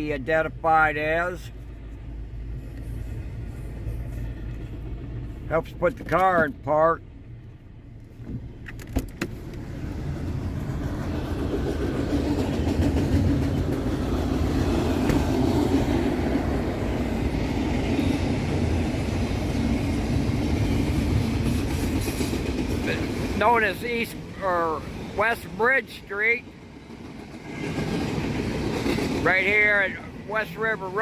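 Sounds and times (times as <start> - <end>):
freight train cars rumbling: 0.0 - 31.0.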